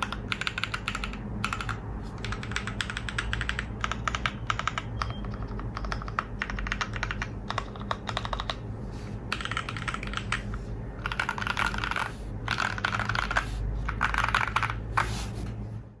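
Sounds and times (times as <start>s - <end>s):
mechanical keyboard typing: 0.0s - 8.7s, 9.3s - 15.1s.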